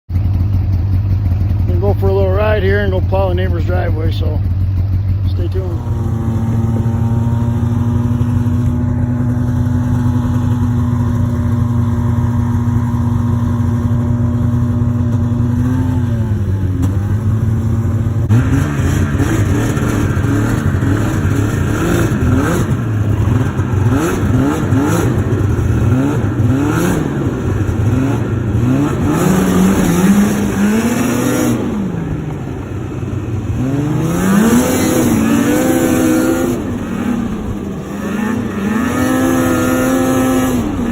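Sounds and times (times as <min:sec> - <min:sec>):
snowmobile engine revving: 0:01.2 - 0:40.9.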